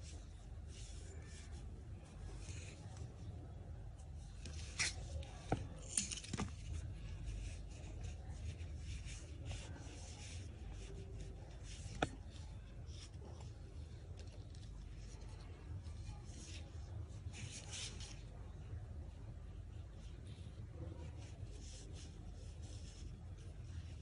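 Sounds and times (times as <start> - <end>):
yarn rubbing and rustling: 0.0 - 3.3, 3.9 - 24.0
low background hum: 0.0 - 24.0.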